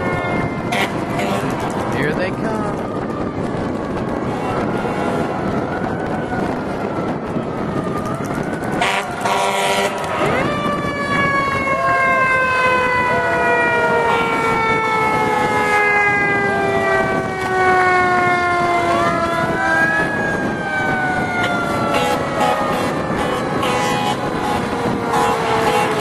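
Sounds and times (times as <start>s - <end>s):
fire truck siren wailing: 0.0s - 26.0s
truck rumble: 0.0s - 26.0s.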